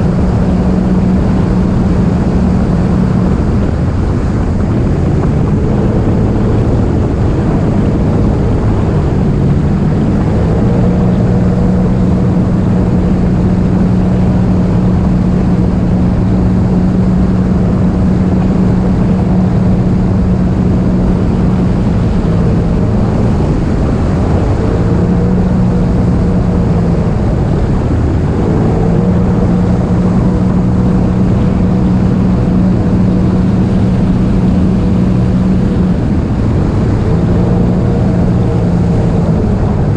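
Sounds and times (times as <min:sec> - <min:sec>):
jet ski engine running: 0:00.0 - 0:39.9
rushing water: 0:00.0 - 0:39.9
wind noise: 0:00.0 - 0:39.9.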